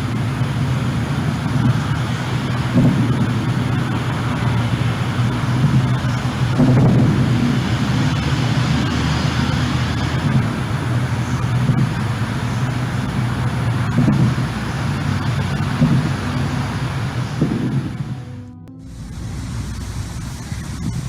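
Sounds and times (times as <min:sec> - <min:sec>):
low rumble with noisy hiss: 0:00.0 - 0:21.0.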